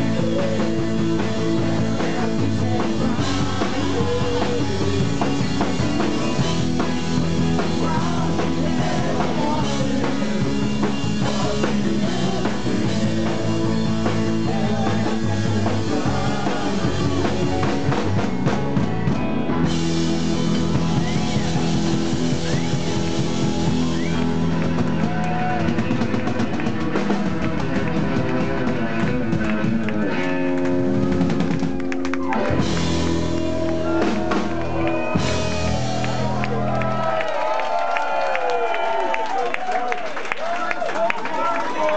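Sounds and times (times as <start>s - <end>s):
drum kit: 0.0s - 37.2s
bass guitar: 0.0s - 38.6s
electric guitars: 0.0s - 38.6s.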